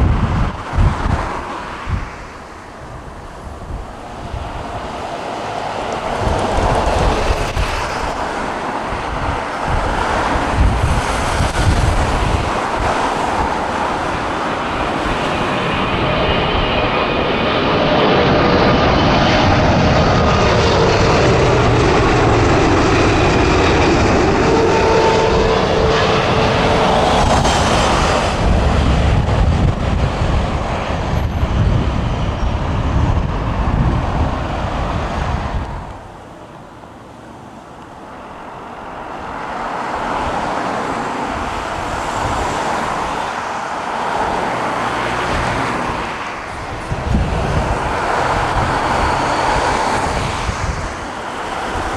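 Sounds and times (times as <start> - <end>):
jet airliner passing: 0.0 - 51.9.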